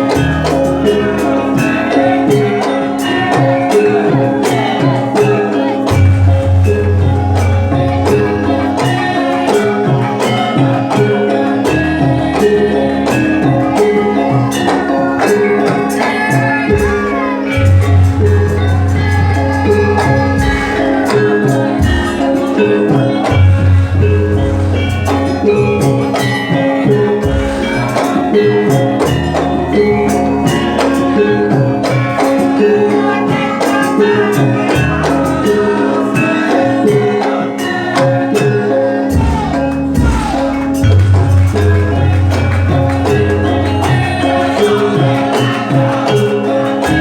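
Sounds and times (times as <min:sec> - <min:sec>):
metallophones ringing melody: 0:00.0 - 0:47.0
steady percussive beat: 0:00.0 - 0:47.0.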